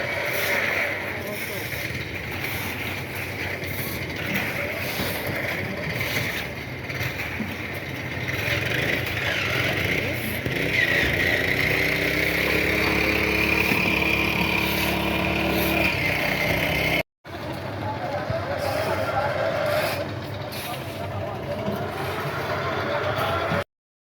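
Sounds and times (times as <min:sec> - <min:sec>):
engine running: 0:00.0 - 0:23.6
outdoor background noise: 0:00.0 - 0:23.7.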